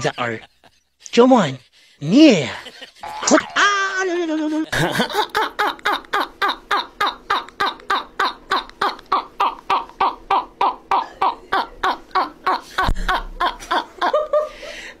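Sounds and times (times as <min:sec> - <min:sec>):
man laughing hard: 0:00.0 - 0:00.8, 0:02.3 - 0:14.7.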